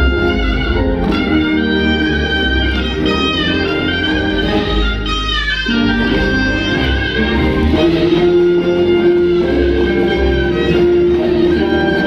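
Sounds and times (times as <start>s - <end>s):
instrumental stage music: 0.0s - 12.0s.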